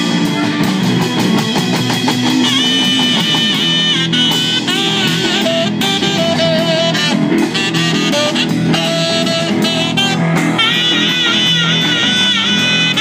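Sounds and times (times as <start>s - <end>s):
band playing instrumental music: 0.0s - 13.0s
guitar wavering melody notes: 0.0s - 13.0s.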